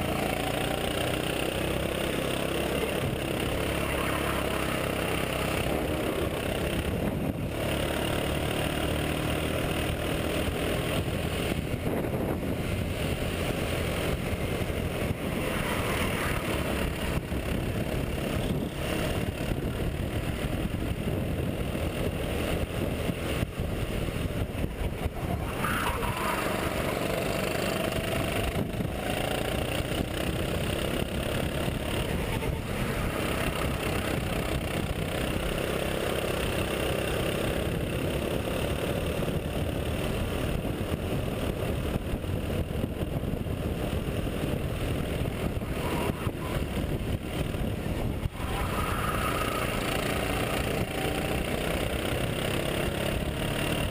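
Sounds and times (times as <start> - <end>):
kart engine running hard: 0.0 - 53.9
wind on microphone: 1.4 - 7.9, 9.3 - 53.9.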